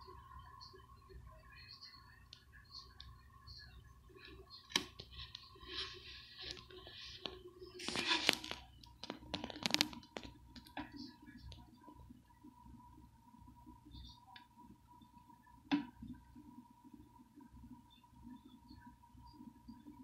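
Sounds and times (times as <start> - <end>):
faint steady tone: 0.0 - 7.8, 10.3 - 20.0.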